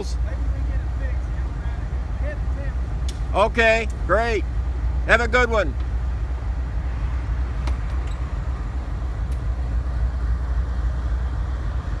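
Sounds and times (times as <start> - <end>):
locomotive engine idling: 0.0 - 12.0.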